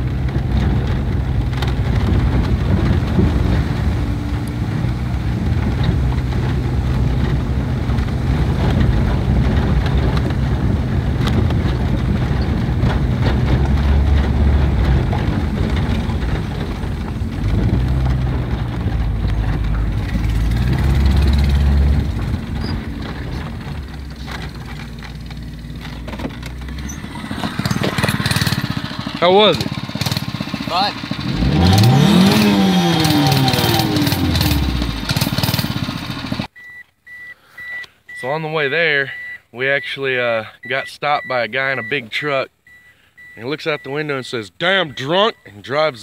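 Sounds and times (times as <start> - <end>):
car rumbling on gravel road: 0.0 - 36.6, 38.2 - 46.0.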